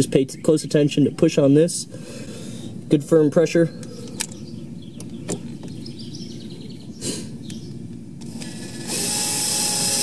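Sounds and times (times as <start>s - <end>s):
birds chirping: 0.0s - 8.2s
steady low background noise: 0.0s - 9.2s.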